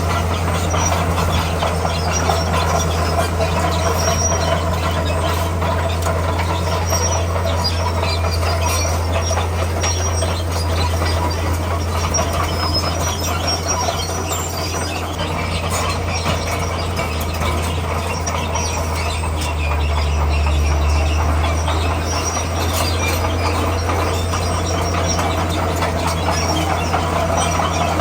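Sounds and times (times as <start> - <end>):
bulldozer diesel engine droning: 0.0 - 28.0
steel tracks squeaking and clattering: 0.0 - 28.0.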